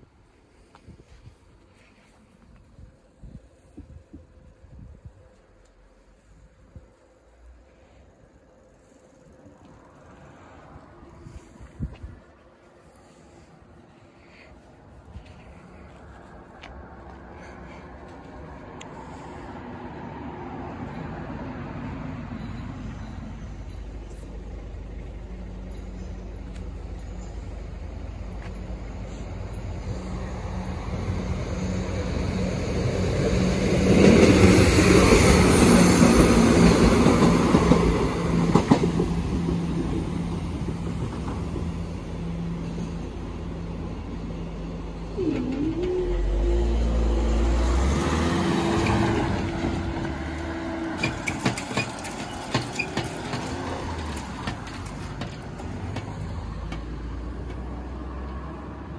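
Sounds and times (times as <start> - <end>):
train passing: 0.0 - 58.9.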